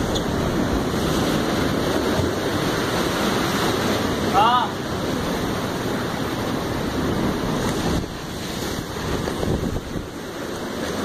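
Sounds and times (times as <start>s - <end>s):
sea surf churning through rocks: 0.0s - 11.0s.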